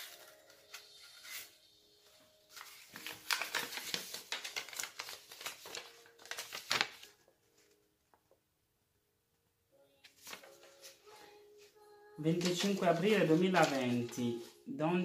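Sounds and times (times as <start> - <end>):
paper rustling and crinkling: 0.0 - 8.3, 10.0 - 11.7, 12.3 - 14.7.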